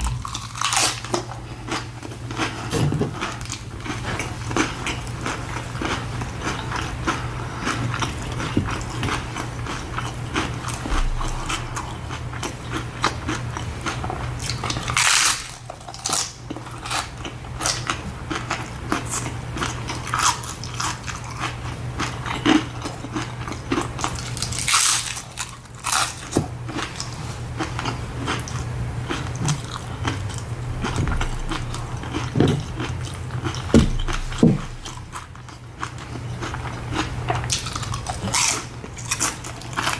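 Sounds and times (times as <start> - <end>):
crunchy food chewing: 0.0 - 39.9.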